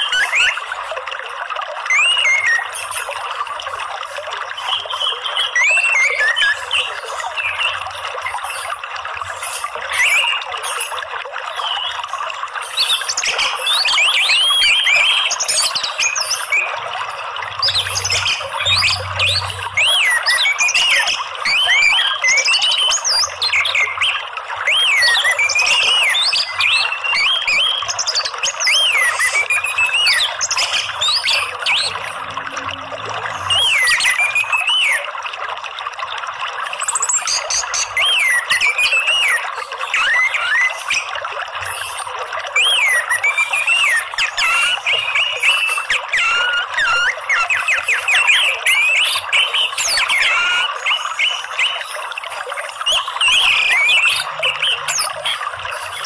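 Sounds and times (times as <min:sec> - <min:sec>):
thrush singing whistled notes: 0:00.0 - 0:00.7, 0:01.9 - 0:03.0, 0:04.6 - 0:08.6, 0:09.4 - 0:10.9, 0:12.6 - 0:32.7, 0:33.3 - 0:35.1, 0:36.8 - 0:52.0, 0:52.7 - 0:56.0
running water: 0:00.0 - 0:56.0.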